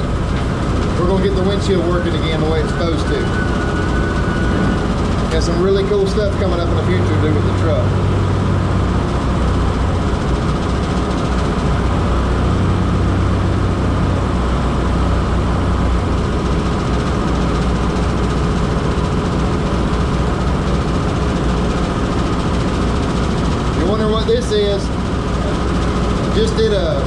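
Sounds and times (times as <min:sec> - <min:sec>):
road noise: 0:00.0 - 0:27.0
truck engine running: 0:00.0 - 0:27.0.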